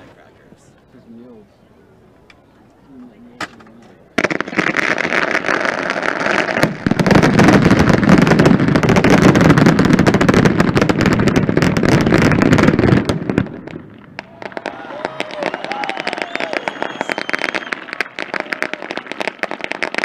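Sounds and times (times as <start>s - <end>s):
firecrackers crackling and banging: 3.4s - 20.0s.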